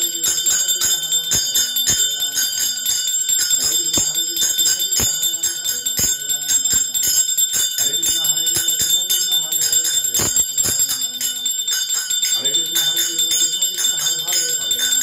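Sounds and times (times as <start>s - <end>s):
devotional singing with a beat: 0.0s - 15.0s
hand bell ringing: 0.0s - 15.0s.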